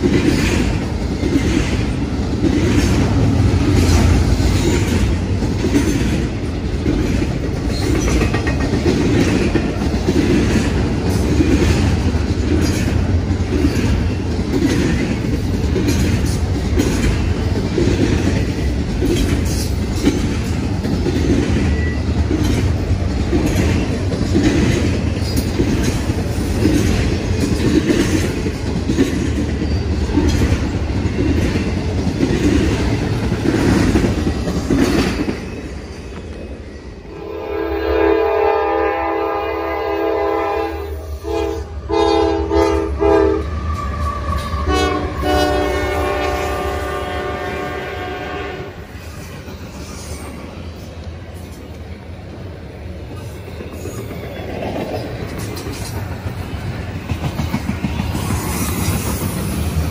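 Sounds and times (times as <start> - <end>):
wheels clickety-clack on rail joints: 0.0 - 37.1, 40.1 - 59.9
steel wheels rumbling on rail: 0.0 - 59.9.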